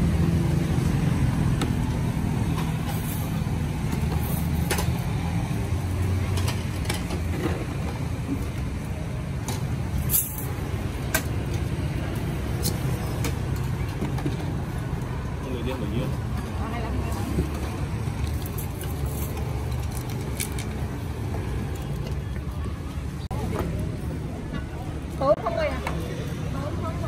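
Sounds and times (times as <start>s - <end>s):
traffic engine drone: 0.0s - 27.0s.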